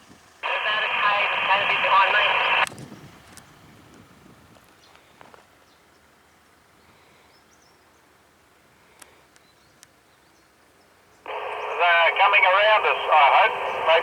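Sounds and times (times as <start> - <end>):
faint background hiss: 0.1 - 4.0, 4.6 - 14.0.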